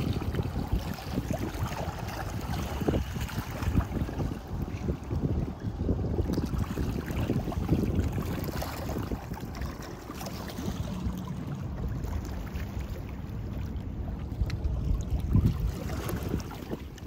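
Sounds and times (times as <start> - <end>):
waves lapping against rocks: 0.0 - 17.0
wind rumbling on microphone: 0.0 - 17.0.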